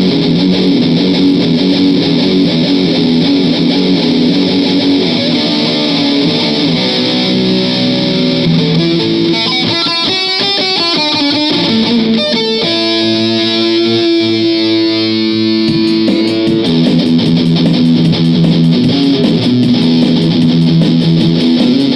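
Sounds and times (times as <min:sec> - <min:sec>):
electric guitar lick: 0:00.0 - 0:21.9.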